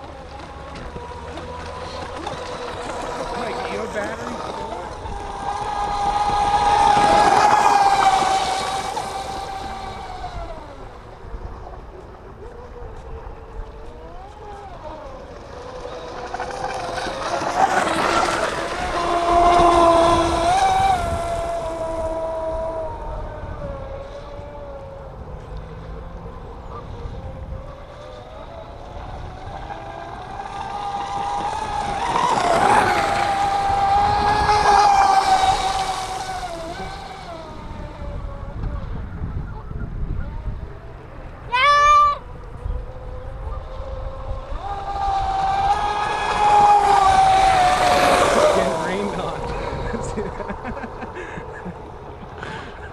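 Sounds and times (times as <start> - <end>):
rc speedboat motor whining: 0.0 - 52.9.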